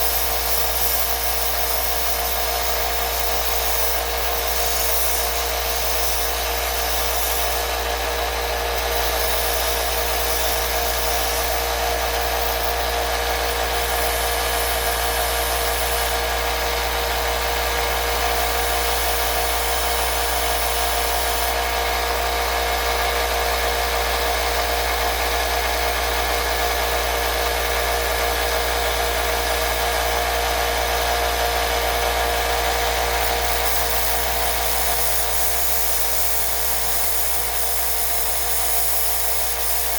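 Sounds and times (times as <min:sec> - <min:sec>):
electric motor humming and whining: 0:00.0 - 0:39.9.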